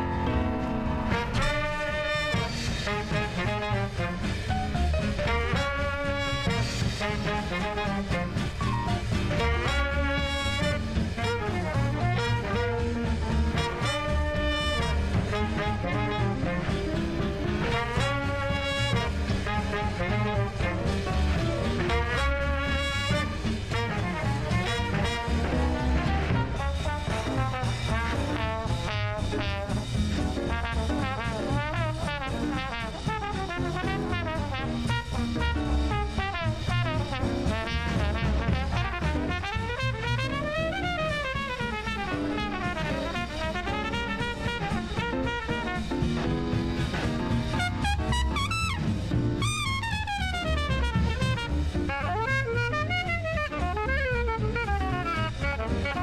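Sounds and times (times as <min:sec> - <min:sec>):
drum kit beat: 0:00.0 - 0:56.0
swing jazz brass horns: 0:00.0 - 0:56.0.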